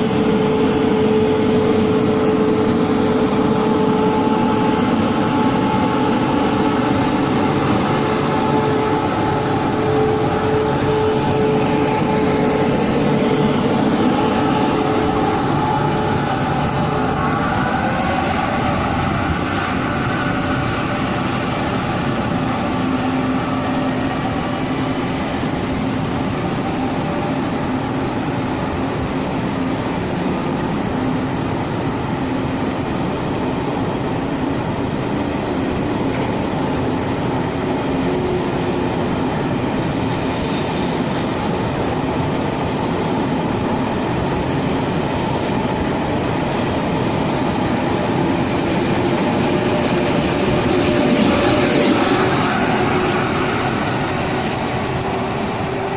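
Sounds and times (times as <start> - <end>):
train running on track: 0.0 - 55.9.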